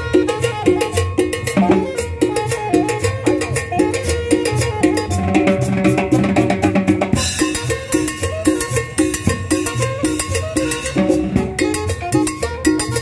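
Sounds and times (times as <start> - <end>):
street band playing latin dance music: 0.0 - 13.0.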